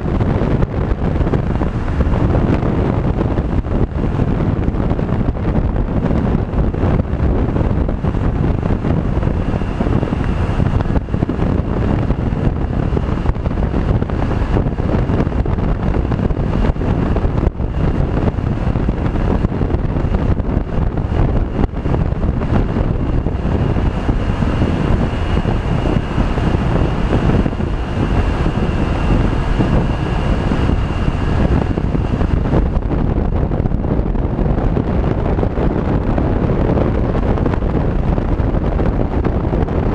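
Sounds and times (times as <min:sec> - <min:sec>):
motor vehicle running: 0:00.0 - 0:39.9
wind rushing over microphone: 0:00.0 - 0:39.9.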